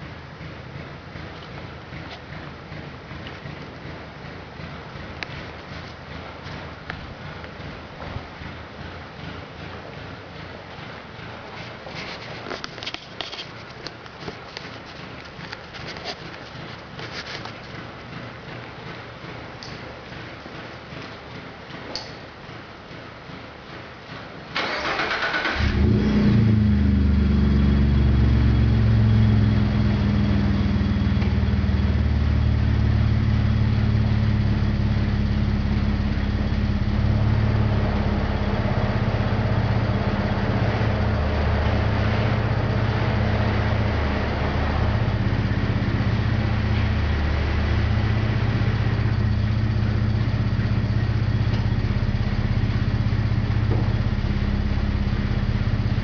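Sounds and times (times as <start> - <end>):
truck engine starting and idling: 0.0 - 56.0.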